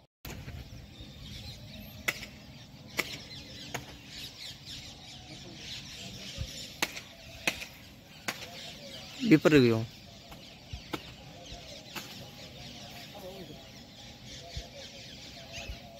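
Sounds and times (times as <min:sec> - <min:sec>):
small birds chirping: 0:00.3 - 0:15.9.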